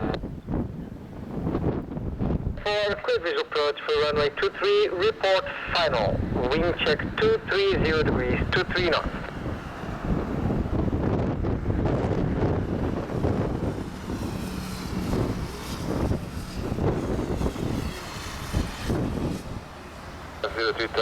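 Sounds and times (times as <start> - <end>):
wind on microphone: 0.0 - 3.0, 5.5 - 20.2
airliner engines droning: 0.0 - 21.0
high engine whine: 1.4 - 21.0.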